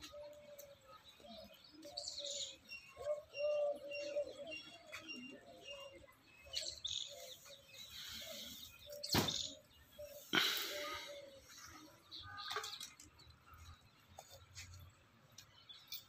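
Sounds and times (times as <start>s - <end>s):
birds cooing: 0.0s - 13.1s
bird chirps: 0.0s - 16.0s.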